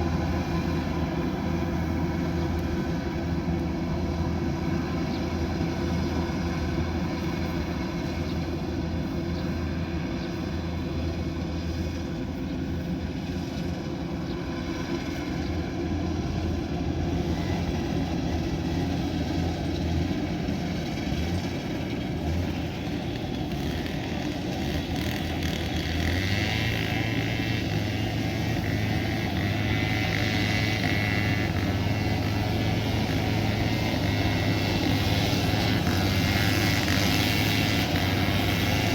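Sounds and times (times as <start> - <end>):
combine harvester diesel engine running: 0.0 - 38.9.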